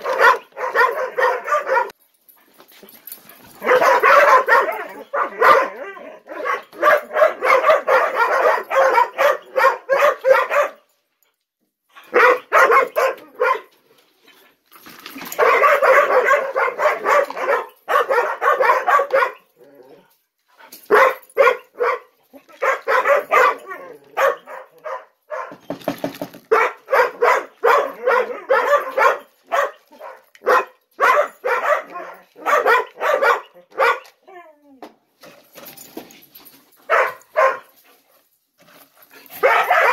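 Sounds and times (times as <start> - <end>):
puppies barking and yipping: 0.0 - 2.0, 3.1 - 10.8, 12.0 - 13.8, 15.2 - 19.9, 20.9 - 34.5, 36.4 - 38.0, 39.1 - 39.9.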